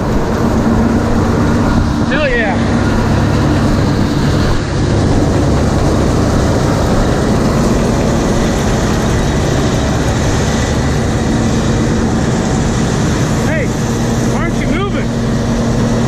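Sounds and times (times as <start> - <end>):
combine engine drone: 0.0 - 16.0
loud machinery noise: 0.0 - 16.0.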